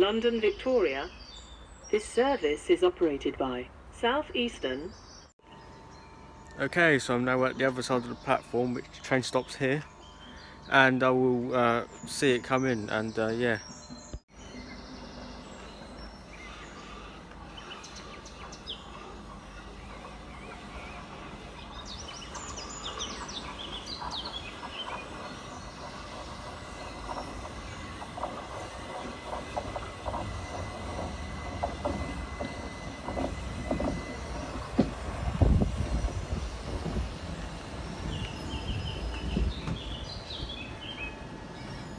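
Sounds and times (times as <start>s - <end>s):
electric train running: 5.4s - 41.9s
thin steady whine: 5.4s - 41.9s
wheels clattering over rail joints: 5.9s - 41.9s.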